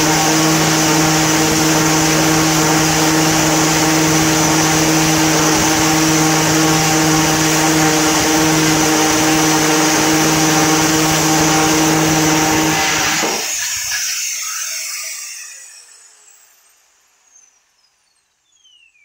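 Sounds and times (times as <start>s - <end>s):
grinder winding down: 0.0s - 17.2s
angle grinder whine: 0.0s - 18.8s.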